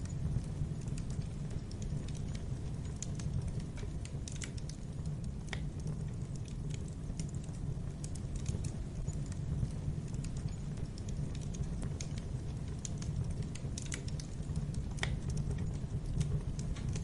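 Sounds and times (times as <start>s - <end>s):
fire crackling and popping: 0.0s - 17.0s
fire rumbling in fireplace: 0.0s - 17.0s.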